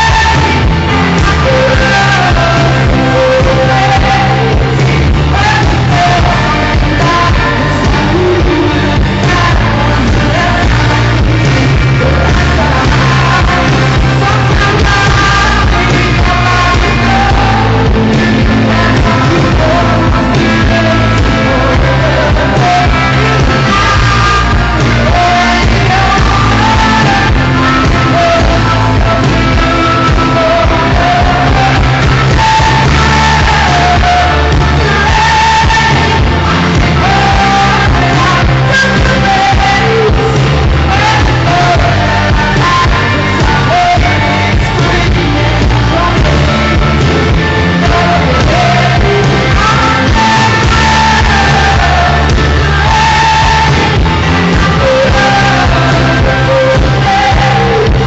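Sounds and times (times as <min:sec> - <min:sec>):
live backing band: 0:00.0 - 0:58.0
woman singing: 0:00.0 - 0:58.0.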